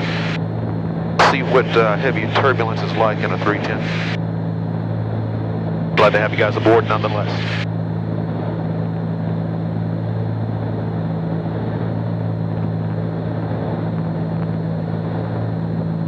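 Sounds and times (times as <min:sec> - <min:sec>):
airplane engines droning: 0:00.0 - 0:16.0.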